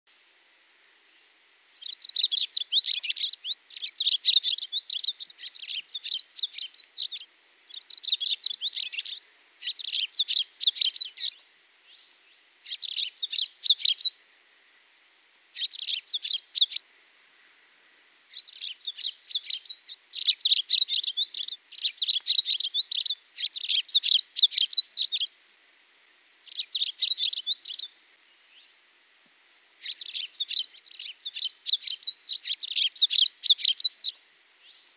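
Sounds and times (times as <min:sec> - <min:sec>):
songbird chirping: 0:00.1 - 0:34.9.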